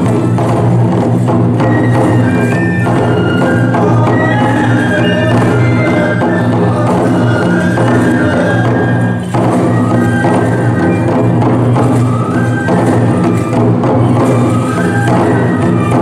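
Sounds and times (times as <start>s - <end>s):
bamboo flute melody: 0.0s - 16.0s
taiko drums beating: 0.0s - 16.0s.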